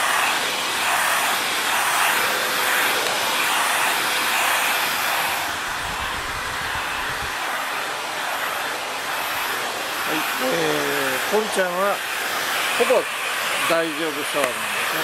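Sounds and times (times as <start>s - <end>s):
handheld vacuum cleaner running: 0.0s - 15.0s.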